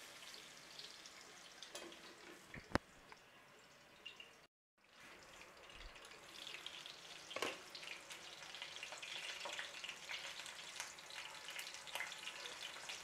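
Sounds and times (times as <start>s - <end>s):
oil sizzling in frying pan: 0.0s - 13.0s.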